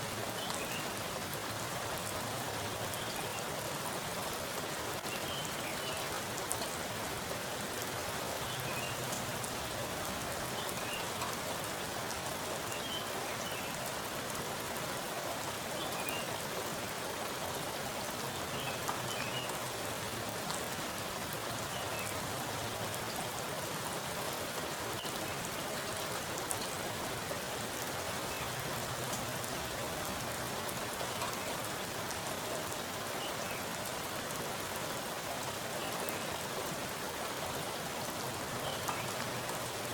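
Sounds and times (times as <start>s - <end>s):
heavy rain falling on water: 0.0s - 39.9s.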